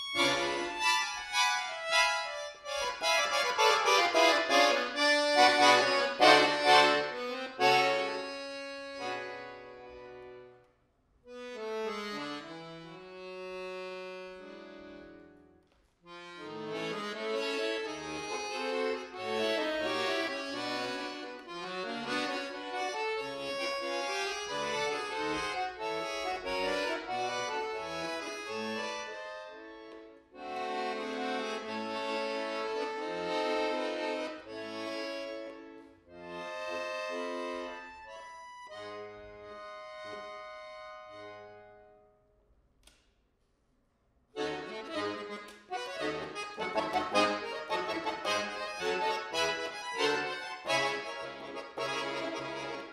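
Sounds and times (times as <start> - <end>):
button accordion playing: 0.0 - 10.7, 11.3 - 42.2, 44.4 - 52.9.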